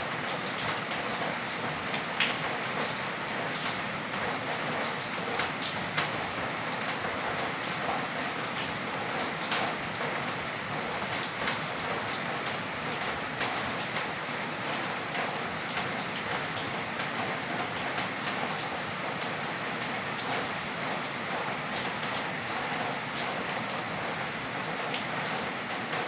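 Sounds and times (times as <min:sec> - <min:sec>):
light rain falling: 0:00.0 - 0:26.0
raindrops ticking on a surface: 0:00.0 - 0:26.0.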